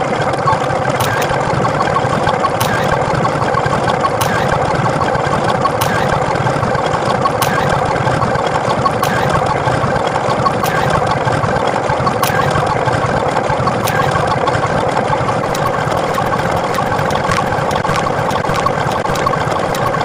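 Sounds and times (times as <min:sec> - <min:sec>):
motor running: 0:00.4 - 0:20.0.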